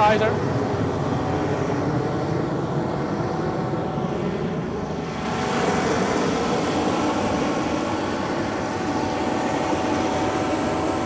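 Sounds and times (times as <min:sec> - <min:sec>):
turbine rush with whine: 0:00.0 - 0:11.0.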